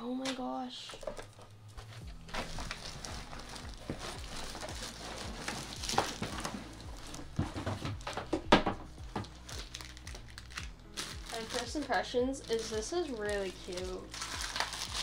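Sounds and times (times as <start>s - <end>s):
cardboard and plastic rustling: 0.3s - 15.0s.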